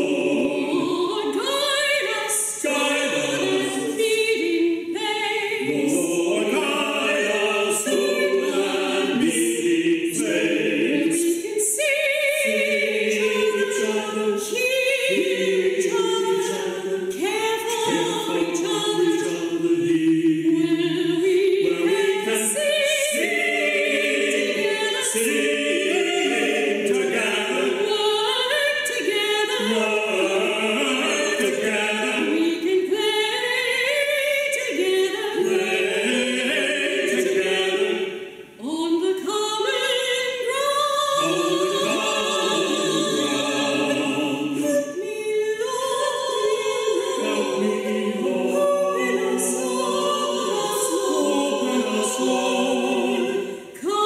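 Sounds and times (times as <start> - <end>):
mixed choir singing a hymn: 0.0 - 54.0.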